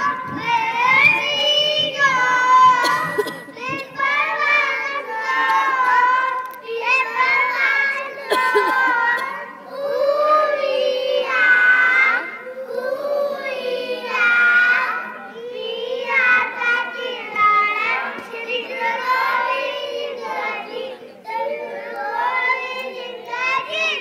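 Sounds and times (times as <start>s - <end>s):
boys singing together: 0.0s - 24.0s.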